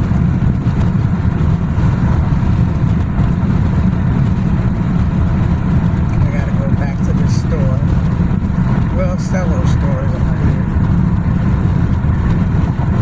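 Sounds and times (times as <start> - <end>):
road and engine rumble in cabin: 0.0 - 13.0.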